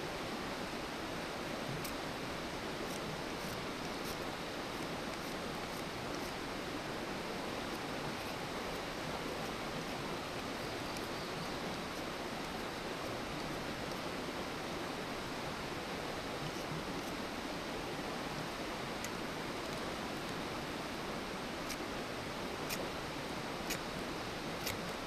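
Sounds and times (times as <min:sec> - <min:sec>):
campfire hissing and crackling: 0:00.0 - 0:25.0.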